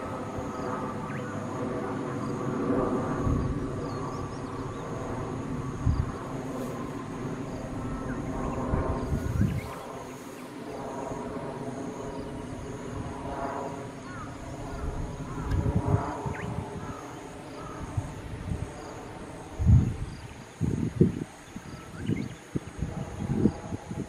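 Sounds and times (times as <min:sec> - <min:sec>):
distant engine drone: 0:00.0 - 0:24.0
faint high whine: 0:00.0 - 0:24.0.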